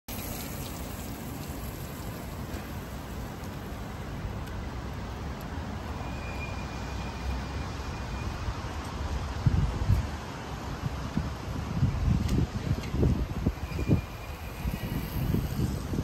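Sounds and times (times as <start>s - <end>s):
road traffic rumble: 0.1s - 16.0s.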